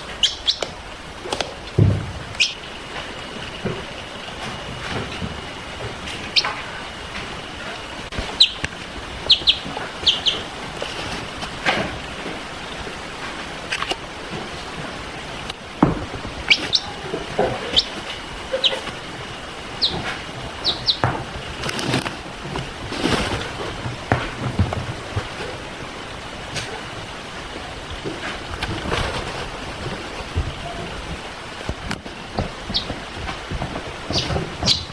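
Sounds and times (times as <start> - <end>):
baby chicks peeping: 0.0 - 34.9
knocks and rustling: 0.0 - 34.9.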